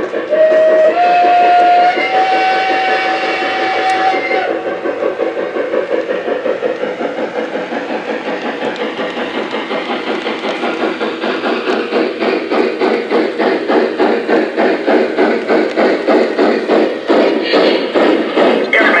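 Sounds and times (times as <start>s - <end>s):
constant steam hiss: 0.0s - 19.0s
model train steam chuffing: 0.0s - 19.0s.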